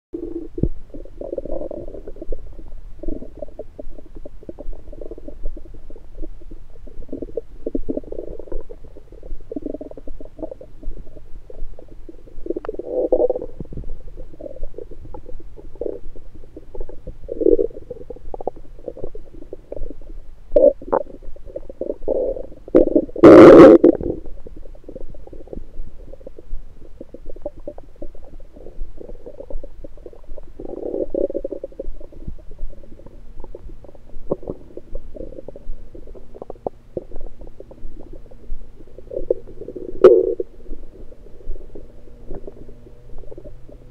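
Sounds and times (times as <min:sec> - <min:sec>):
stomach gurgles and rumbles: 0:00.2 - 0:43.9.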